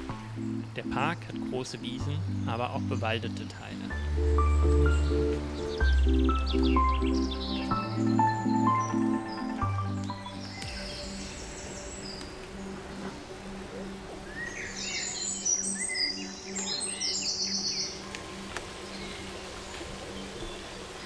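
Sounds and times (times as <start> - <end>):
faint background music: 0.0 - 21.0
small birds singing: 0.0 - 21.0.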